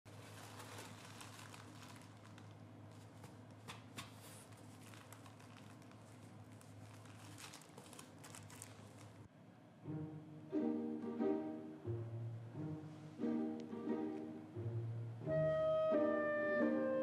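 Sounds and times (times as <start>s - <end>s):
low room hum: 0.1s - 17.0s.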